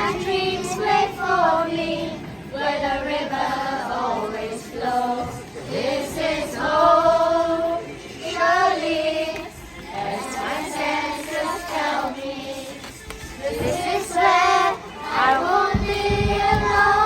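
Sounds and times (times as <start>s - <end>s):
group of high voices singing: 0.0s - 17.0s.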